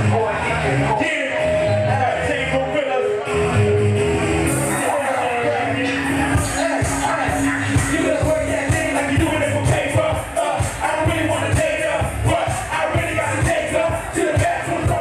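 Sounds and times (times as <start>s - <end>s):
crowd noise: 0.0s - 15.0s
loud dance music: 0.0s - 15.0s.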